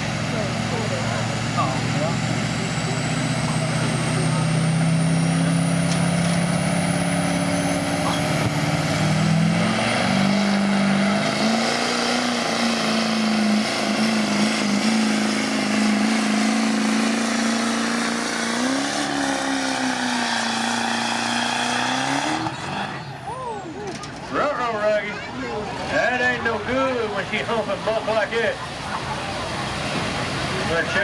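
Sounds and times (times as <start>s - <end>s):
pickup engine at high revs: 0.0s - 23.3s, 24.3s - 31.0s.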